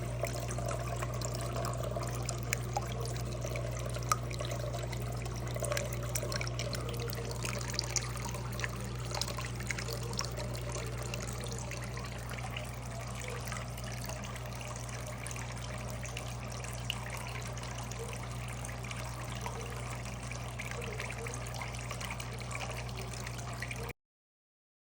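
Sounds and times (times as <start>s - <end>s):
water fountain trickling and splashing: 0.0s - 23.9s.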